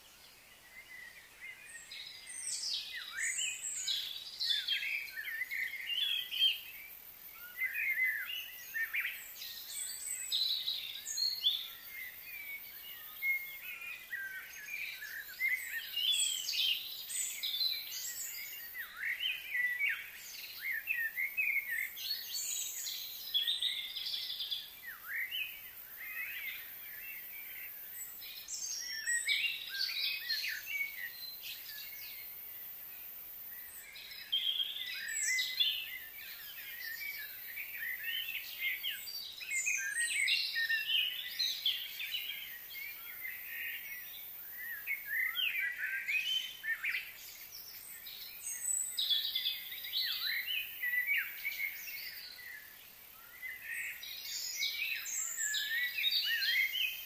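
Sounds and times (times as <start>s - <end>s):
birds chirping and singing: 0.1s - 57.0s.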